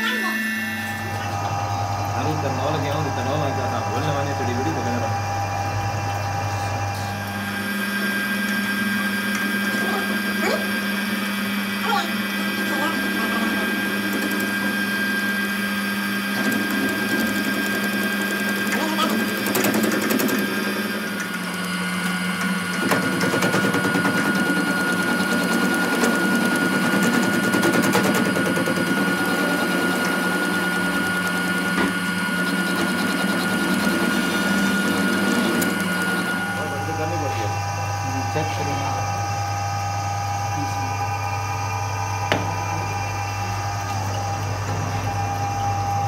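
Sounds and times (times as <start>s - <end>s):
grating metal cutting: 0.0s - 39.4s
lathe humming: 0.0s - 46.0s.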